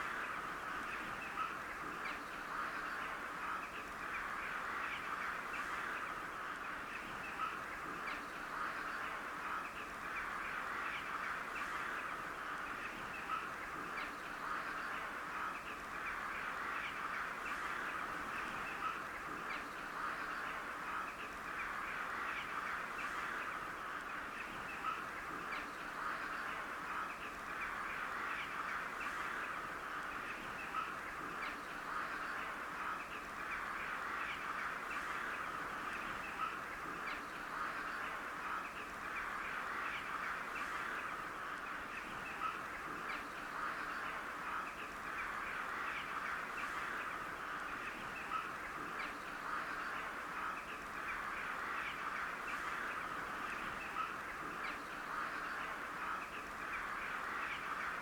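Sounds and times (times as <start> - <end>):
flock of crows cawing: 0.0 - 58.0.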